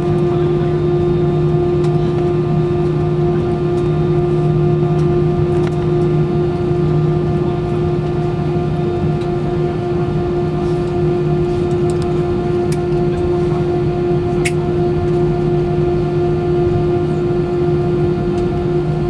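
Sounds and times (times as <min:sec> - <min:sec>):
airplane cabin hum: 0:00.0 - 0:19.0.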